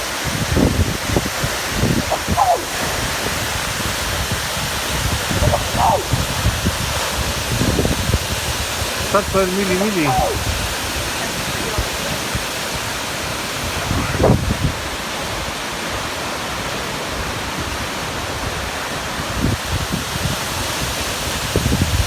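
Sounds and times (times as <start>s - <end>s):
waterfall rushing: 0.0s - 19.4s.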